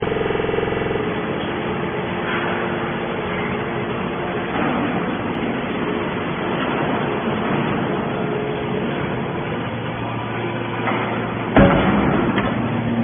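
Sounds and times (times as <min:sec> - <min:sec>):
scrap-metal baler running: 0:00.0 - 0:13.0.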